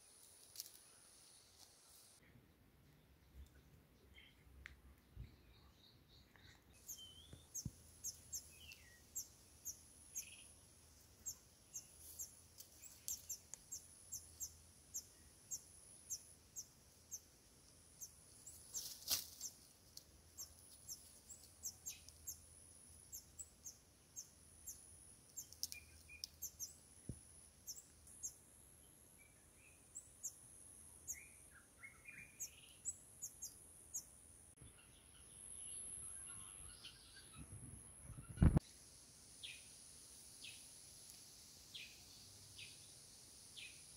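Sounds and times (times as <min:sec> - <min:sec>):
faint birds chirping: 0:00.0 - 0:43.9.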